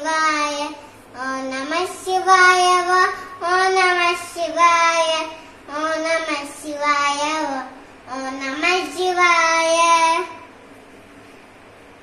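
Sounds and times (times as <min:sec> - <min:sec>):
boy singing a chant: 0:00.0 - 0:10.5.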